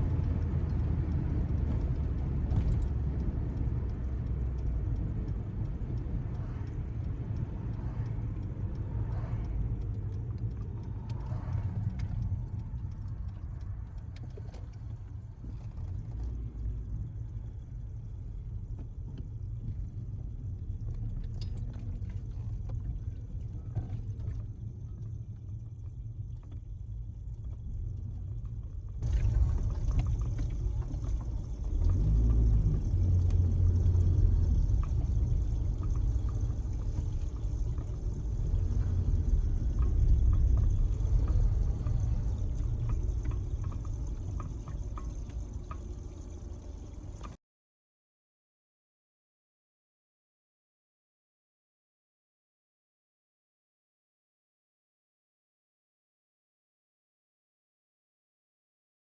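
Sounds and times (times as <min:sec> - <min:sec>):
car driving on road: 0:00.0 - 0:47.4.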